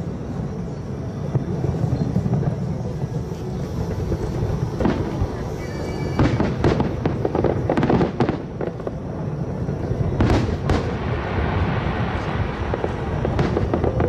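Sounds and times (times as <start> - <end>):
fireworks bursts and crackling: 0.0 - 14.0
loud fireworks bangs: 0.0 - 14.0.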